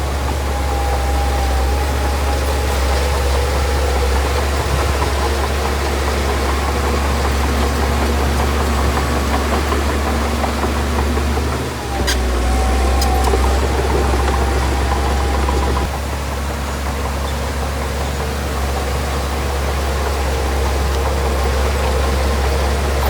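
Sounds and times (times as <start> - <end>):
heavy diesel engine rumbling: 0.0 - 23.0.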